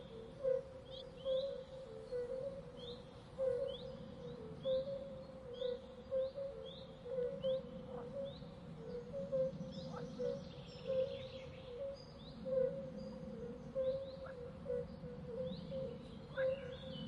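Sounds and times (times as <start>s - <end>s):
countryside background hum: 0.0s - 17.0s.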